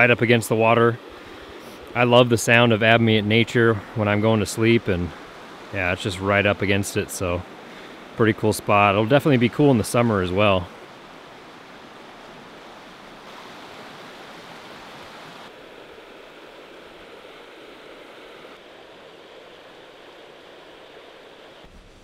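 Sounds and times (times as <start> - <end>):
running water rushing: 0.0 - 21.9.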